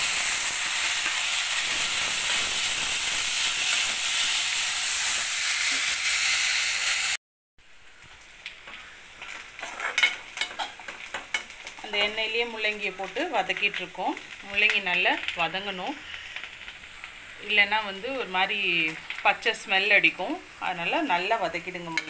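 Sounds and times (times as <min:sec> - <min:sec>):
radish sizzling in hot oil: 0:00.0 - 0:22.0.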